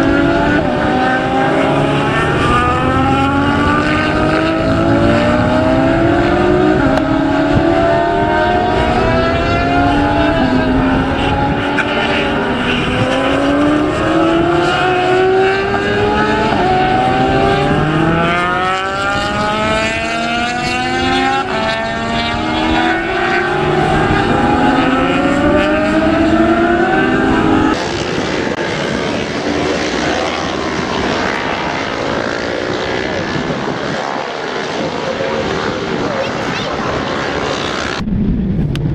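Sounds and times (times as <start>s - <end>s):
racing motorcycles at full throttle: 0.0s - 38.9s.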